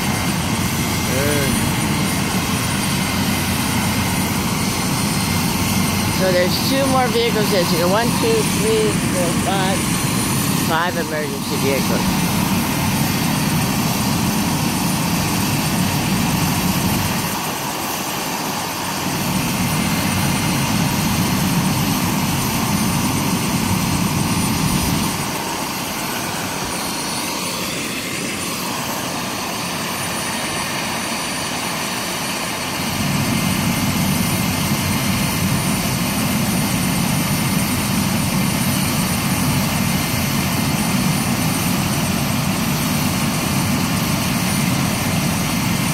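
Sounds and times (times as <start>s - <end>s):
helicopter turbine and rotors idling: 0.0s - 45.9s.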